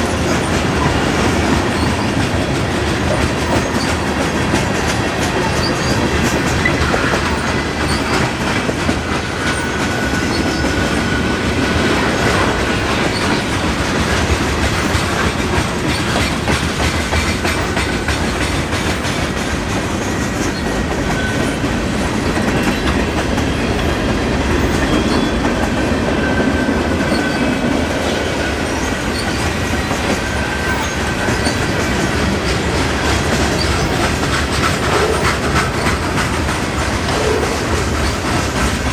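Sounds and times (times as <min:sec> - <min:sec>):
freight train rumble: 0:00.0 - 0:38.9
wheels clicking over rail joints: 0:00.0 - 0:38.9.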